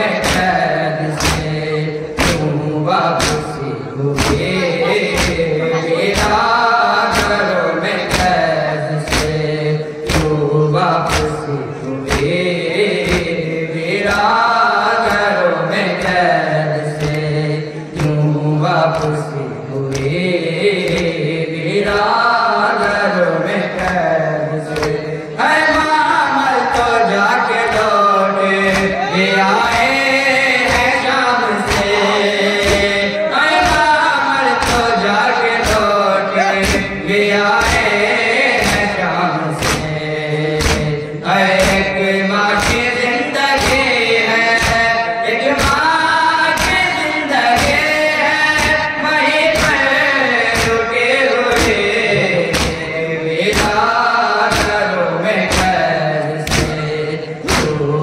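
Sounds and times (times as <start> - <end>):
rhythmic chest beating: 0.0 - 58.0
voices chanting in unison: 0.0 - 58.0.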